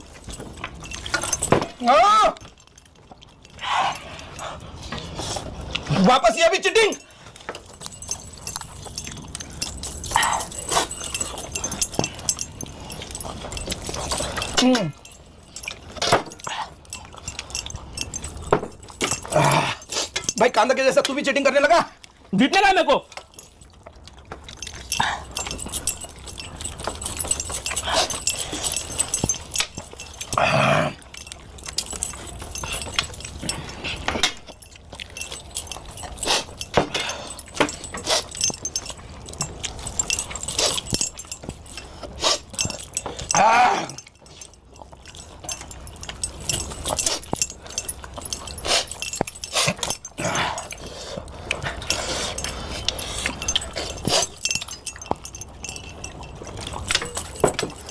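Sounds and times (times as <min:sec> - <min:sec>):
chewing and crunching: 0:00.0 - 0:57.9.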